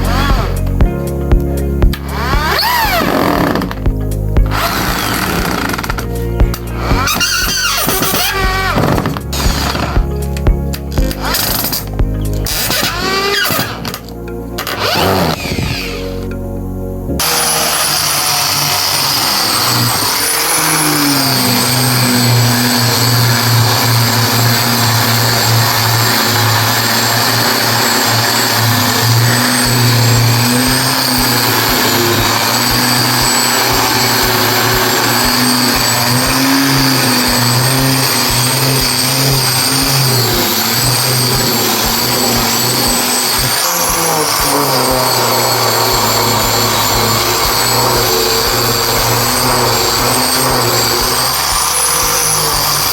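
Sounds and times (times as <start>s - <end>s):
power tool motor whine: 0.0s - 16.4s, 17.0s - 52.9s.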